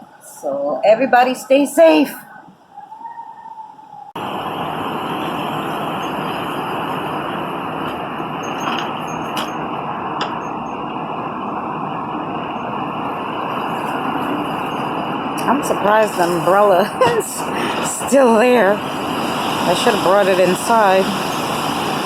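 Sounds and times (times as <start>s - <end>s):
strong storm wind blowing: 1.8s - 22.0s.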